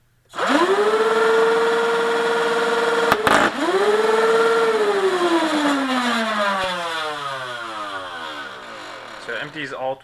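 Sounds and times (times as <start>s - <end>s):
flywheel motors whining: 0.4s - 9.8s.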